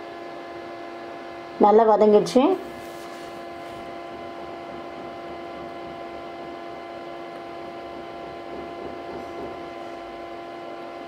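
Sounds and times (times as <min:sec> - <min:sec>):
induction cooktop humming: 0:00.0 - 0:11.0.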